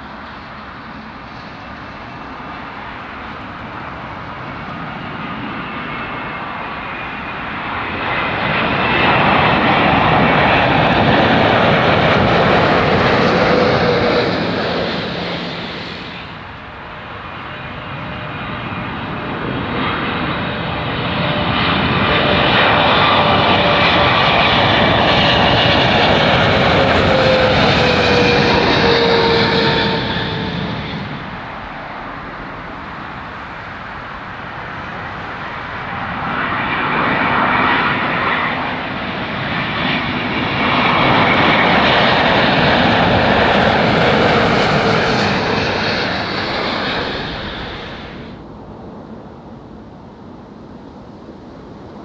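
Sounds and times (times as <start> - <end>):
jet airliner passing overhead: 0.0 - 52.0.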